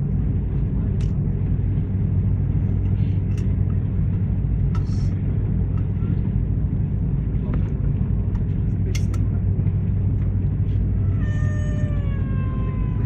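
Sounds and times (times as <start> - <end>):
constant cabin hum: 0.0 - 13.0
jet engines and wheels rumbling: 0.0 - 13.0.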